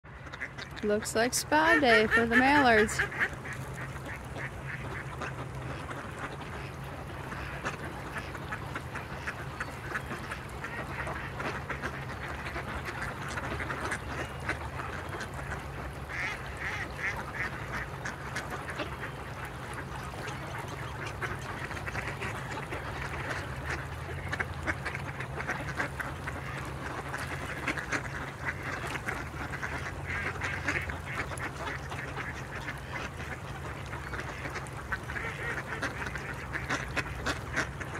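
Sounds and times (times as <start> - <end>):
ducks quacking: 0.1 - 37.9.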